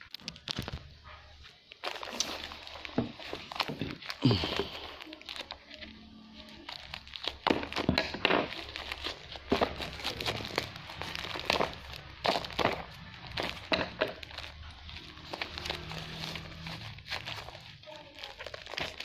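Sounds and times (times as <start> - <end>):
plastic mailer crinkling: 0.0 - 19.0.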